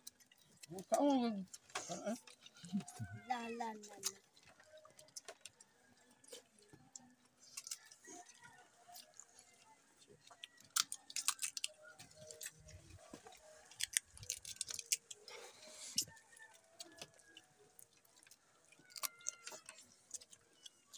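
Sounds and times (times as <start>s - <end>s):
chewing: 0.0s - 20.9s
crab shells cracking: 3.9s - 20.9s.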